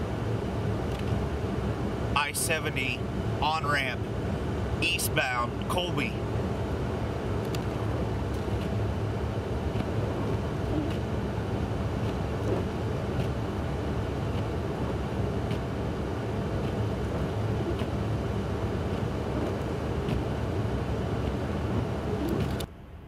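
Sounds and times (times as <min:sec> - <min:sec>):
vehicle rumble: 0:00.0 - 0:23.0.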